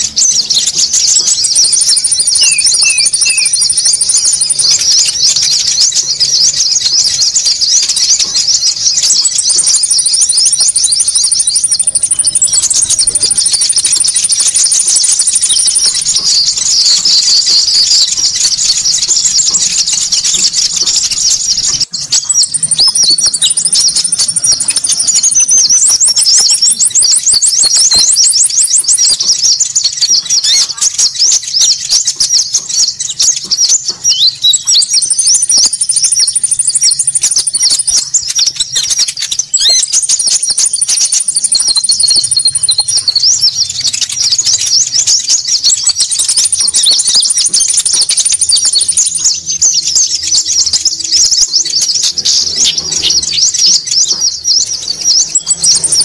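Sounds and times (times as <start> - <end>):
fast high bird trill: 0.0 - 56.0
songbirds chattering: 0.0 - 56.0.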